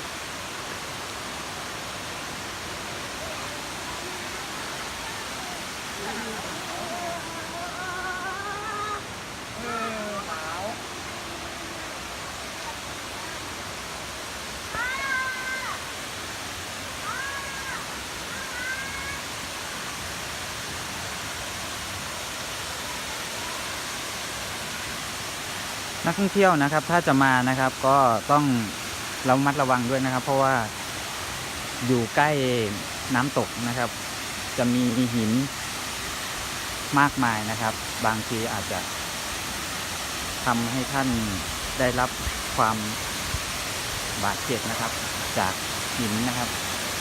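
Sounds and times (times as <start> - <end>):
waterfall rushing roar: 0.0 - 47.0.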